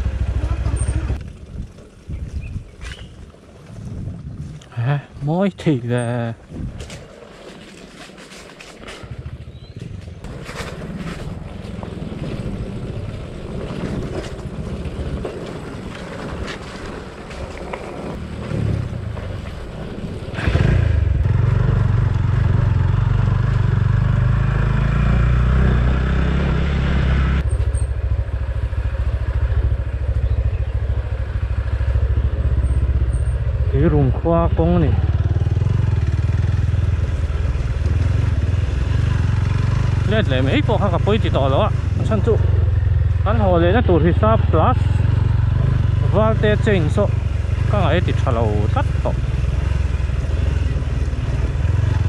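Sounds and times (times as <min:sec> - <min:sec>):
off-road motorcycle engine revving: 0:00.0 - 0:01.3, 0:09.1 - 0:52.0.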